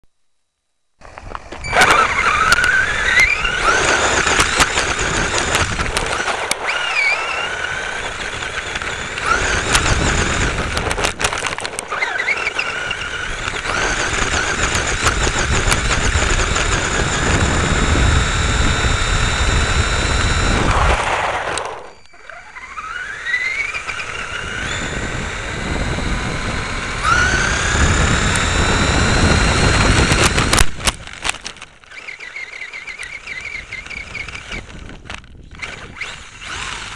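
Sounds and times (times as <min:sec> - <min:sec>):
electric motor whining: 0:01.0 - 0:36.9
wheels rattling on dirt: 0:01.0 - 0:36.9.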